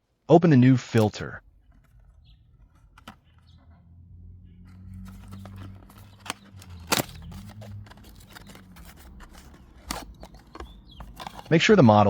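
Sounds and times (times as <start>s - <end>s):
cardboard packaging rustling: 1.0s - 3.7s, 4.6s - 11.7s.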